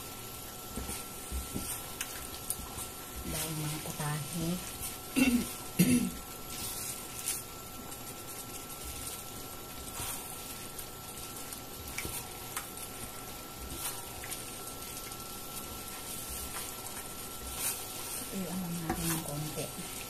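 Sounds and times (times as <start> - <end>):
tofu sizzling in a wok: 0.0 - 20.0.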